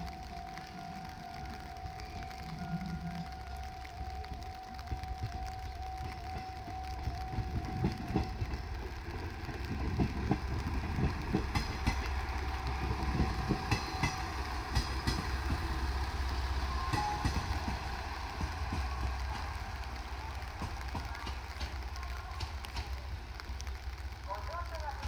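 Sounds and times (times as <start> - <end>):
level crossing warning bell: 0.0 - 22.9
low diesel engine rumble: 0.0 - 25.0
train wheels clicking on rail joints: 0.0 - 25.0.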